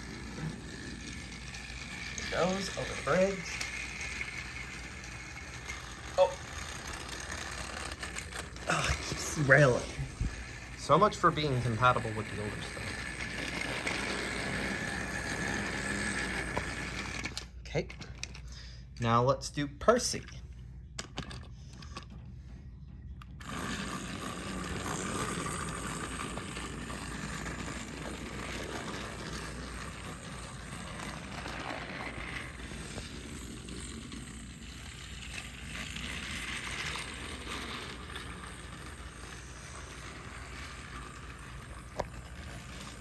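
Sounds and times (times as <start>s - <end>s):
toy train motor and gears: 0.0s - 20.4s, 23.2s - 43.0s.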